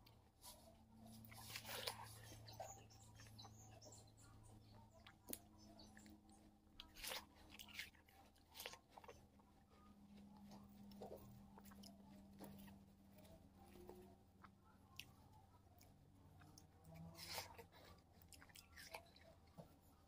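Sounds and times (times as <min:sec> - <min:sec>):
icy crunching of chewing: 0:00.0 - 0:20.0.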